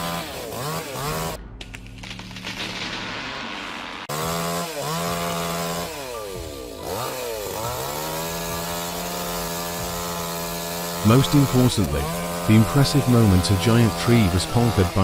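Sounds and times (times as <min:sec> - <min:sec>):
chainsaw running at high speed: 0:00.0 - 0:01.4, 0:04.1 - 0:15.0
rough saw noise: 0:00.0 - 0:01.4, 0:03.9 - 0:15.0.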